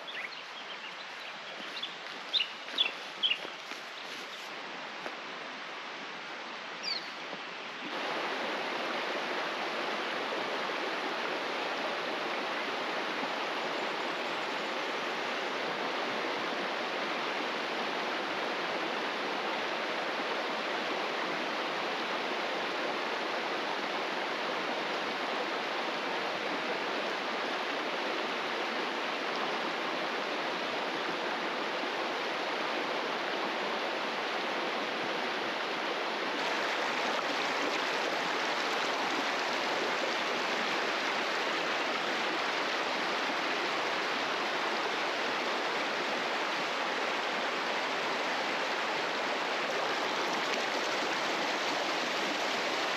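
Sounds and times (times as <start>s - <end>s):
creek rushing over stones: 0.0s - 52.9s
outdoor ambience: 0.0s - 52.9s.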